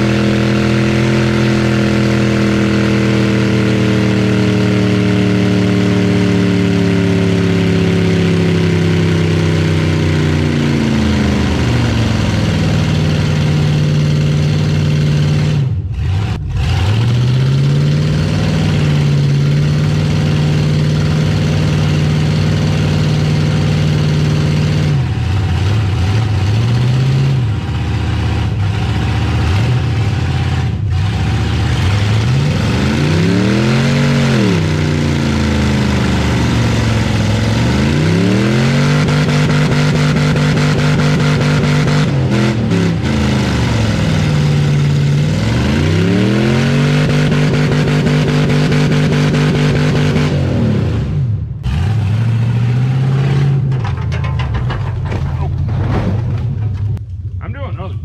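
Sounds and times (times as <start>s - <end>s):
pickup truck engine revving: 0.0s - 53.9s.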